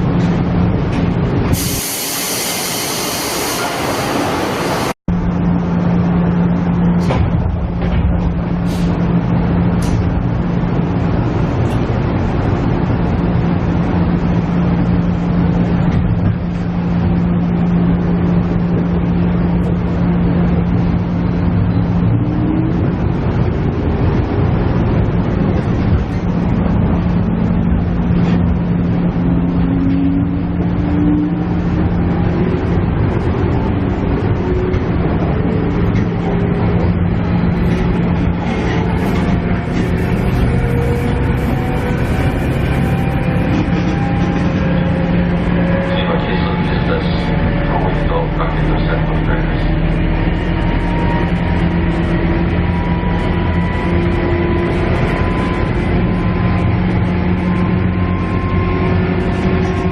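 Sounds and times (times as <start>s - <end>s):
diesel engine droning: 0.0s - 59.9s
wheels rumbling on rail: 0.0s - 59.9s.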